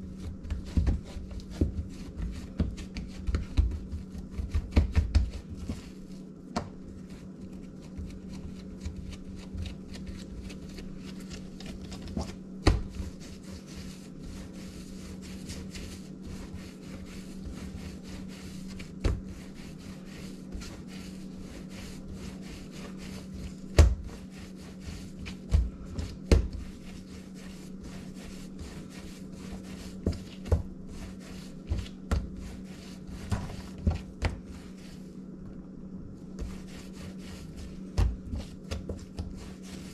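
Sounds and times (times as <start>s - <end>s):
dough thumps: 0.0s - 19.6s, 22.9s - 34.6s, 36.3s - 39.9s
hands rubbing bread dough: 0.0s - 35.4s, 36.2s - 39.9s
steady low hum: 0.0s - 39.9s.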